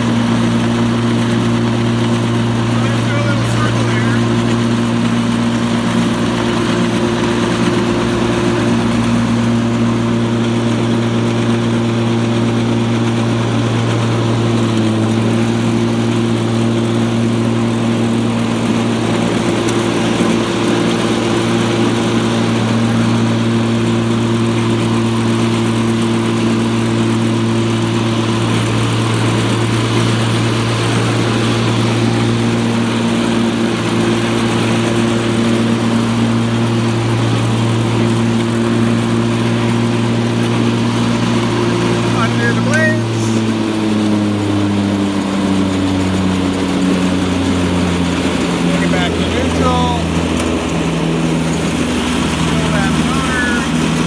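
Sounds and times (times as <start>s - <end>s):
electric lawn tractor humming: 0.0s - 54.0s.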